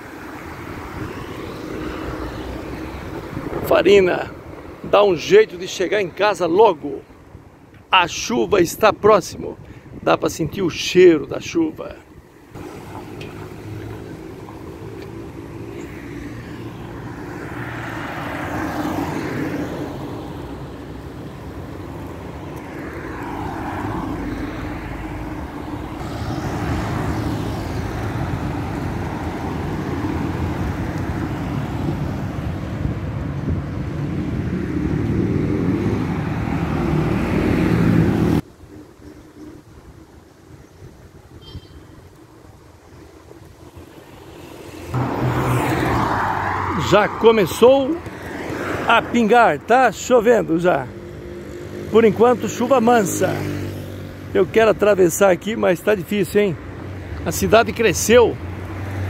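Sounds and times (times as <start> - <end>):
cars passing: 0.0 - 59.0
traffic rumble: 0.0 - 59.0.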